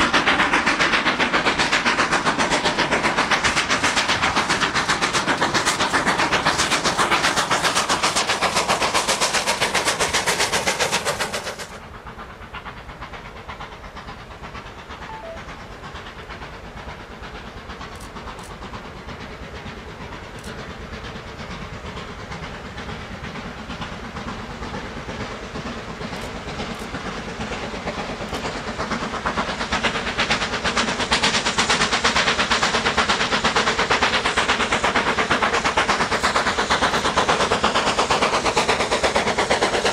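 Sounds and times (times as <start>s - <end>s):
steam locomotive chuffing: 0.0s - 39.9s
train running past: 0.0s - 39.9s.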